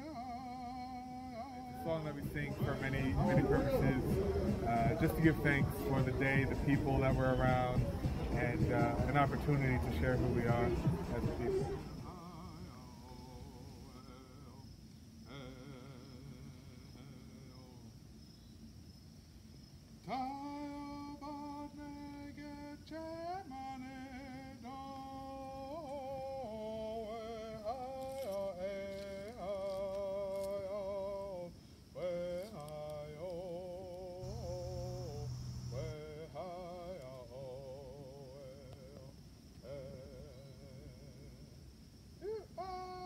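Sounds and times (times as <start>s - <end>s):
person singing slow melody: 0.0s - 18.4s, 19.9s - 43.0s.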